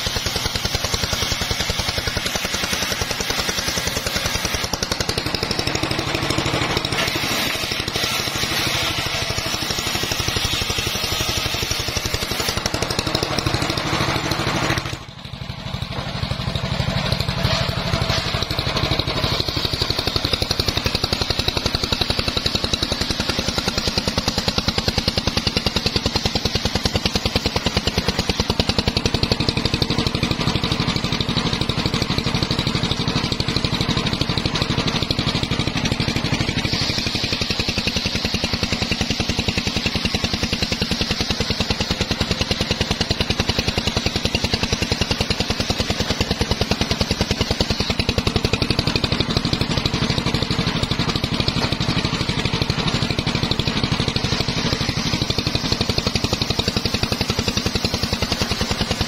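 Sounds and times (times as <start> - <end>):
circular saw ripping logs: 0.0 - 59.0
engine pulsing: 0.0 - 59.0.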